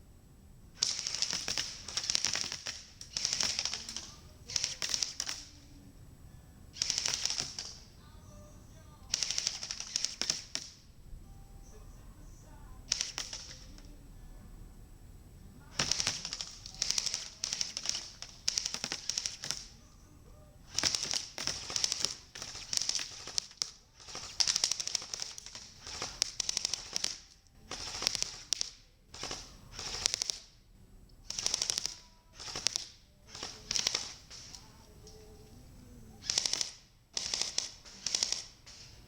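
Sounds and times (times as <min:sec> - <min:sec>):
airsoft guns firing: 0:00.8 - 0:06.0, 0:06.7 - 0:10.9, 0:12.7 - 0:14.0, 0:15.6 - 0:30.6, 0:31.2 - 0:39.0.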